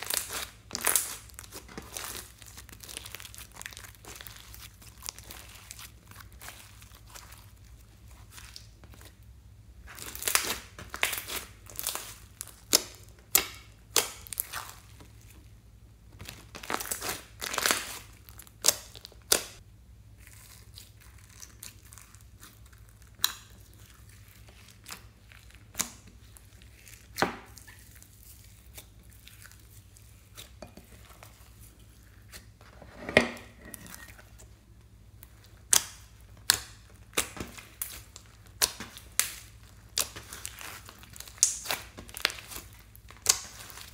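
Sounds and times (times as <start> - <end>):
slime crackling and popping: 0.0 - 9.1, 9.8 - 15.4, 16.2 - 19.6, 20.2 - 30.6, 35.1 - 43.9.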